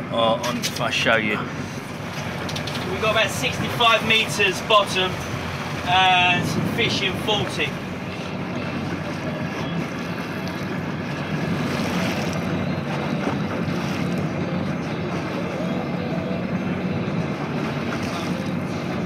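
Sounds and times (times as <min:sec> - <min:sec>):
low hum: 0:00.0 - 0:19.0
sea noise: 0:00.0 - 0:19.0
wind: 0:00.0 - 0:19.0.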